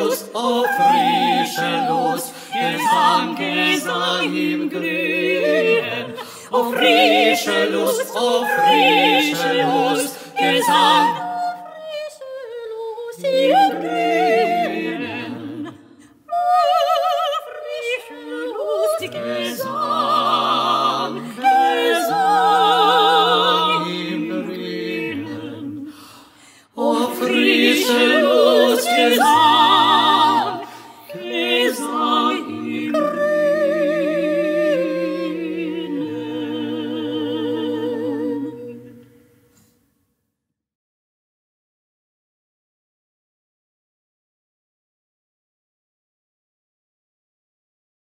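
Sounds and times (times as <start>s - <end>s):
vocal quartet singing in harmony: 0.0s - 39.8s.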